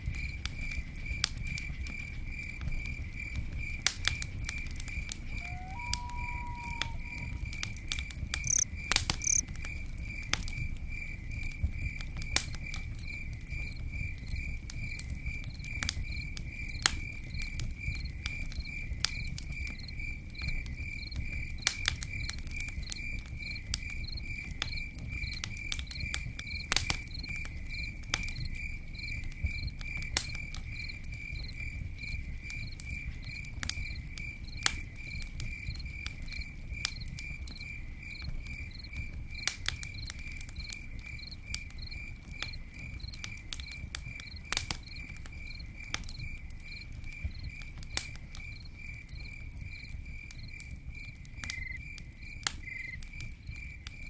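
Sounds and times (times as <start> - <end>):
campfire crackling and popping: 0.0 - 54.0
cricket chirping: 0.0 - 54.0.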